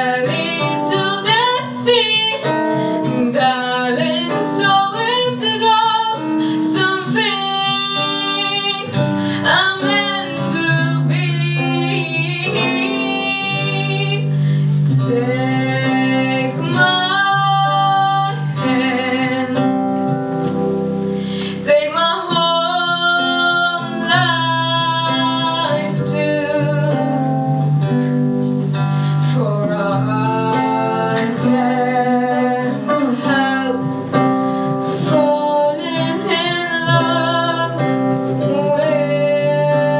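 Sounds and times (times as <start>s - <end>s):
instrumental accompaniment: 0.0s - 39.9s
woman singing into a microphone: 0.0s - 39.9s.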